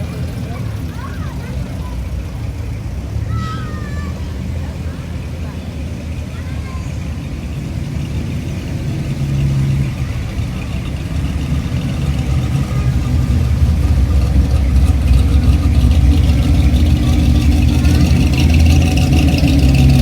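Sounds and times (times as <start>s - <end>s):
car engine running: 0.0s - 20.0s
faint voices: 0.0s - 20.0s.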